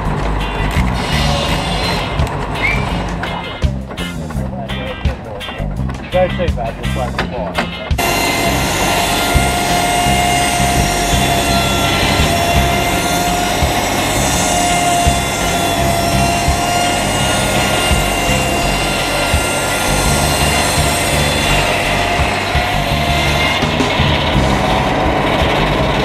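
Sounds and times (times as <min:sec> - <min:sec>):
circular saw blade whining: 0:00.0 - 0:03.6, 0:08.0 - 0:26.0.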